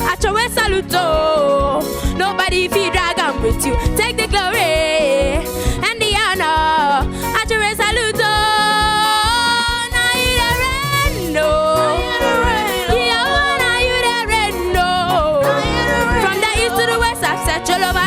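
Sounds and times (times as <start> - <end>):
backing music with drum beat: 0.0 - 18.0.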